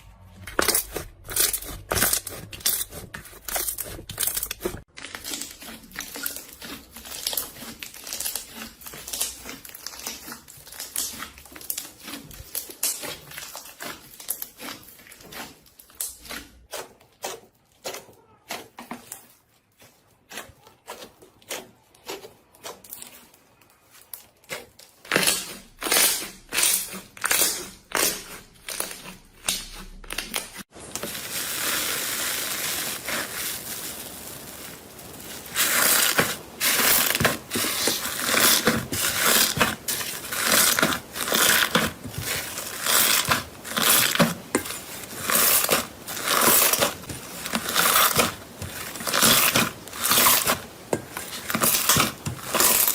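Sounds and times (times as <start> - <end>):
crunchy material crushed by hand: 0.0 - 52.9.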